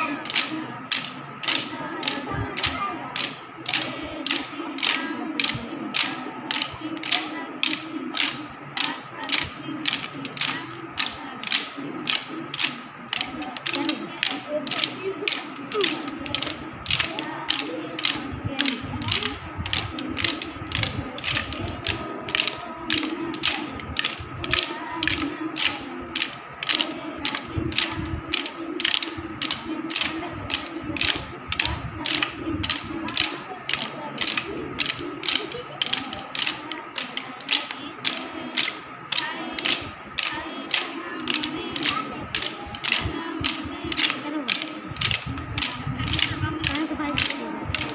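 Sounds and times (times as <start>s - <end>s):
wooden sticks clacking together: 0.2s - 47.9s.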